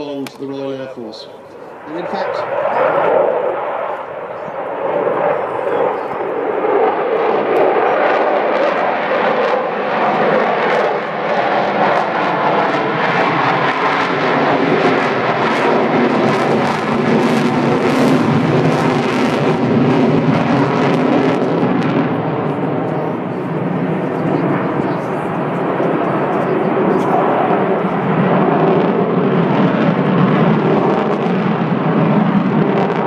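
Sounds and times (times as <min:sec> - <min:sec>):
jet roar of aircraft: 0:00.0 - 0:33.0.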